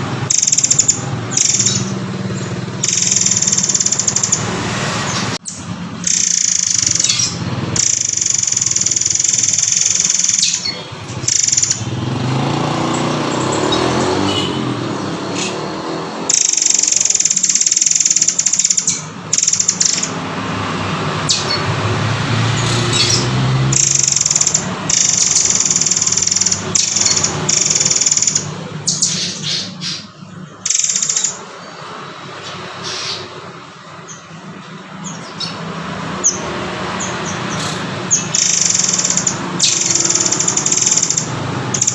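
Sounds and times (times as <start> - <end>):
songbird calls: 0.0 - 41.9.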